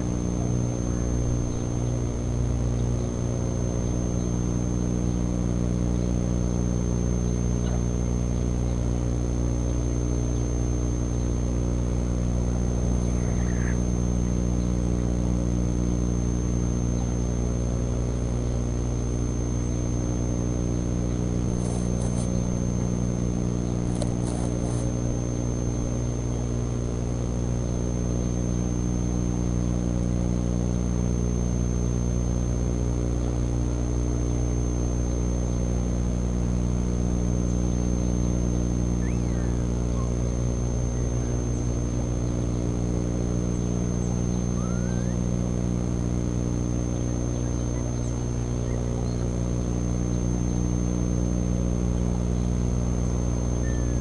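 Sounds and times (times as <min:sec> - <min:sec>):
low drone: 0:00.0 - 0:54.0
thin high whine: 0:00.0 - 0:54.0.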